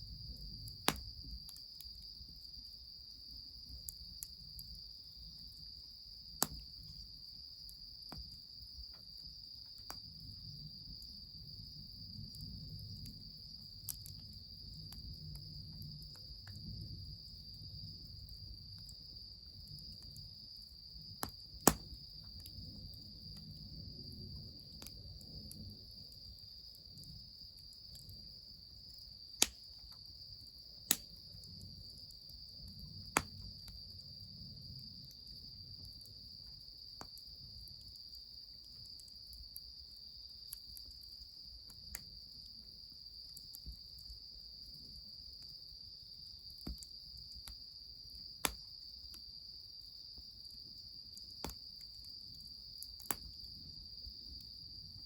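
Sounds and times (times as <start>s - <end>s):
wood fire crackles: 0.0s - 49.2s, 50.1s - 55.0s
insects chirring: 0.0s - 55.0s.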